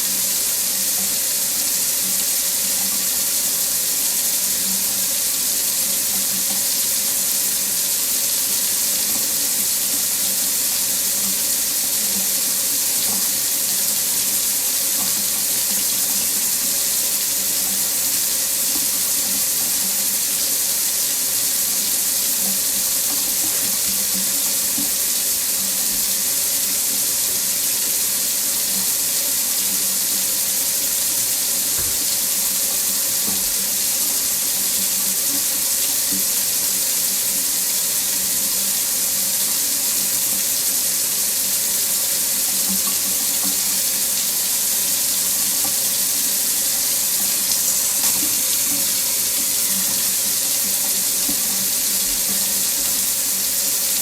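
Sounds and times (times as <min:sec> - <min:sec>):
water running from faucet into sink: 0:00.0 - 0:54.0.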